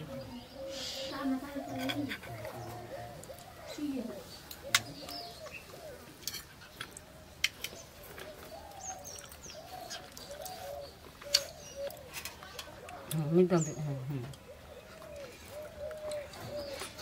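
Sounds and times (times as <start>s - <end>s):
bird cooing: 0.0s - 6.2s, 7.2s - 13.7s, 14.3s - 17.0s.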